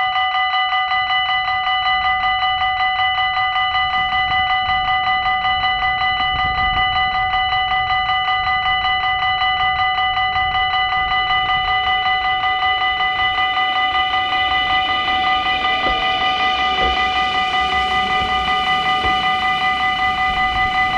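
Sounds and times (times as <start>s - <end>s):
level crossing bell ringing: 0.0s - 20.9s.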